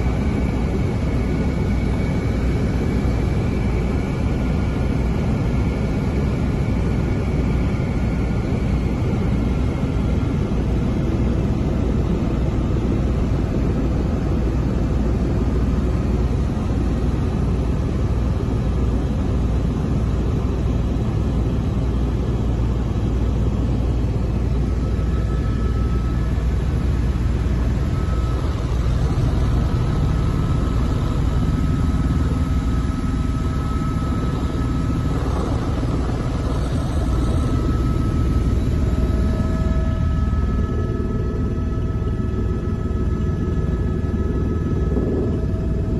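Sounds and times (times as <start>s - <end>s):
faint steady tones: 0.0s - 45.9s
helicopter cabin rumble: 0.0s - 45.9s.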